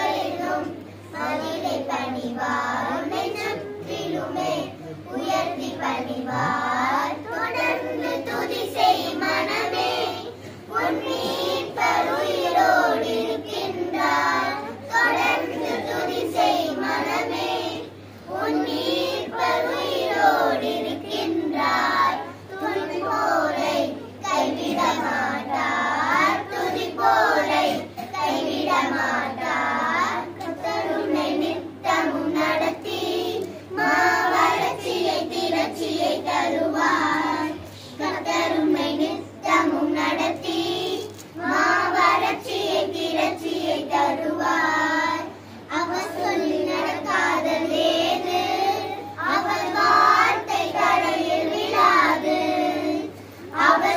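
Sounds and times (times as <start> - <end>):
children singing: 0.0 - 53.9.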